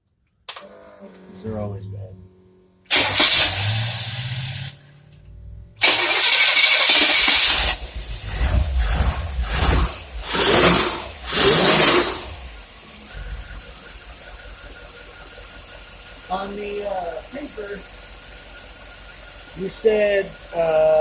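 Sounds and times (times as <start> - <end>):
engine revving: 0.8 - 21.0.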